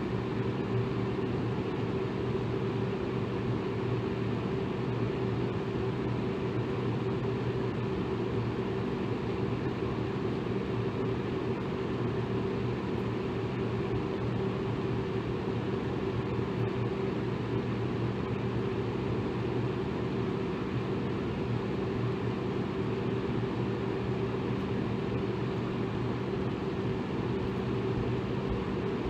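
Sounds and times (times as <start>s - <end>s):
electric fan whooshing: 0.0s - 29.0s.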